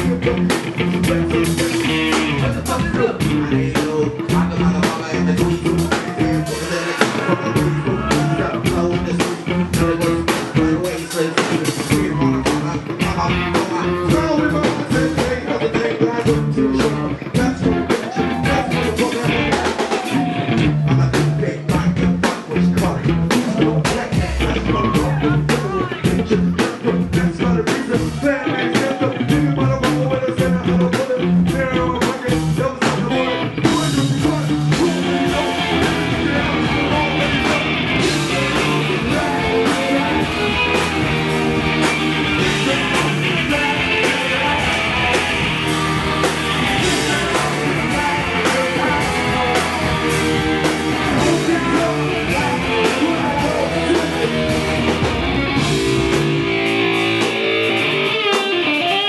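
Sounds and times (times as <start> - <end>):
funk band playing: 0.0 - 59.0.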